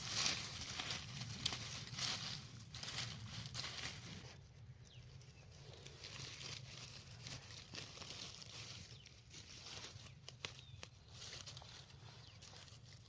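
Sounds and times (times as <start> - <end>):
dry leaves rustling and crackling: 0.0 - 13.0.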